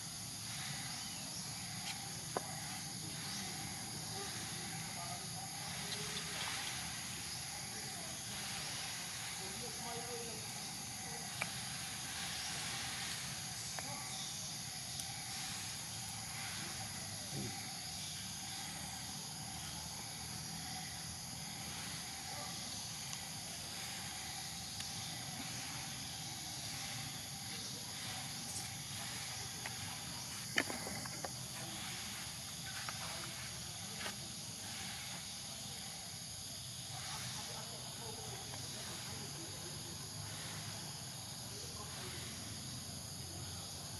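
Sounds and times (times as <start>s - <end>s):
high-pitched insect drone: 0.0s - 43.9s.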